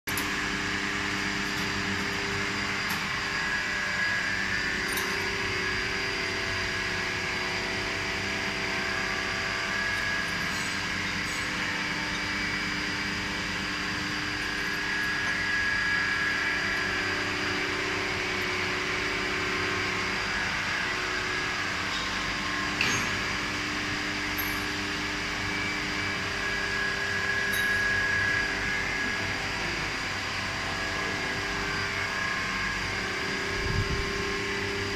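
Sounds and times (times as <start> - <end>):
factory machinery hum: 0.1 - 34.9.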